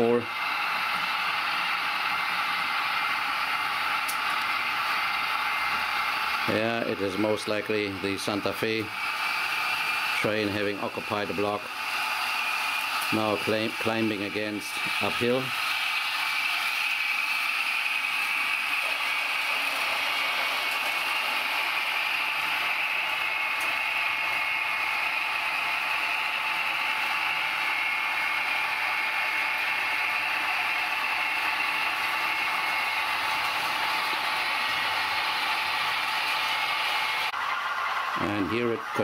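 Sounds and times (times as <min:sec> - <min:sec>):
model trains running on track: 0:00.0 - 0:39.0.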